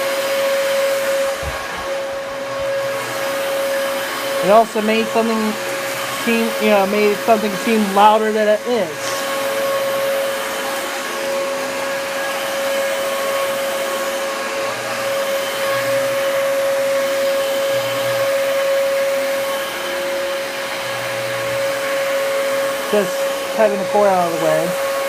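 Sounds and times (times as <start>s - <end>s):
upright vacuum cleaner running: 0.0s - 25.0s.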